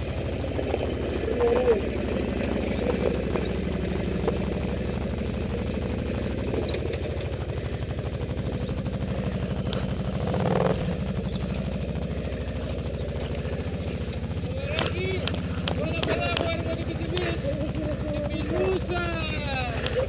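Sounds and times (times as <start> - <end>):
atv engine idling: 0.0 - 20.0.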